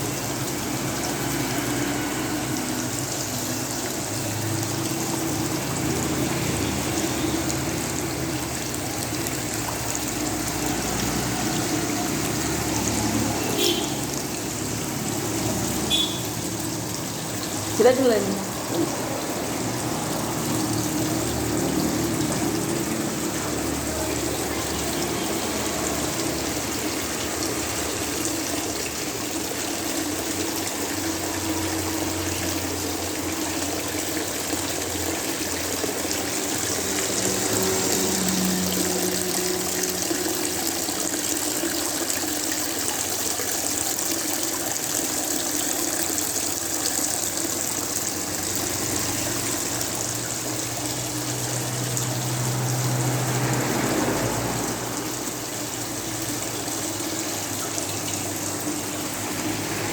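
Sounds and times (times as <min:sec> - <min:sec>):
water splashing in fountain: 0:00.0 - 0:59.9.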